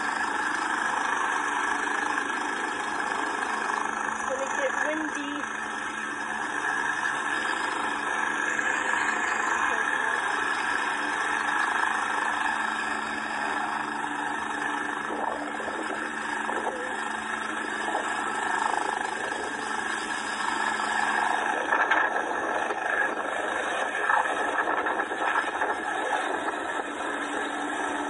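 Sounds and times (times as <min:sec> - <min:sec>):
helicopter engines and rotor: 0:00.0 - 0:28.0.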